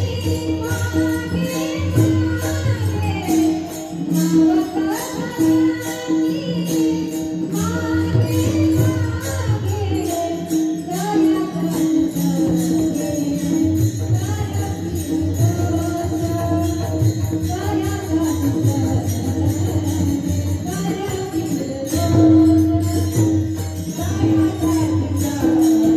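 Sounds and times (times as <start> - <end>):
hand cymbals jangling: 0.0 - 25.9
woman singing: 0.0 - 25.9.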